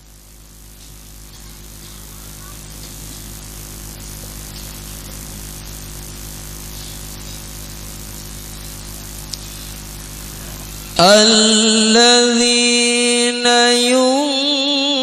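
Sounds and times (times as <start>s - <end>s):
electrical mains hum: 0.0s - 15.0s
sound system hiss: 0.0s - 15.0s.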